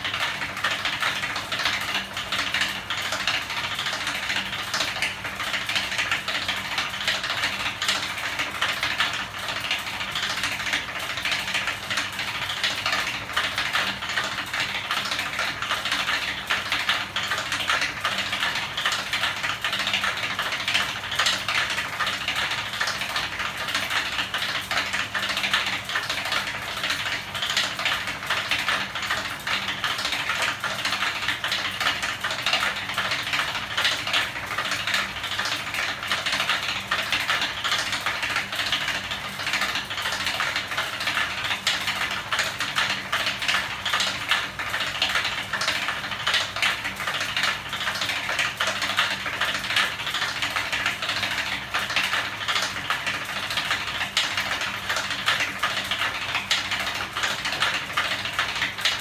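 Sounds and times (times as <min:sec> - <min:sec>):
mechanism rattling clatter: 0:00.0 - 0:59.0.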